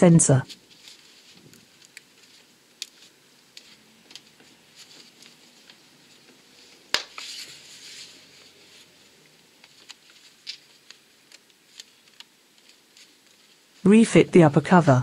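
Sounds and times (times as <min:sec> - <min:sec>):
gloved hands rustling: 0:00.4 - 0:13.9.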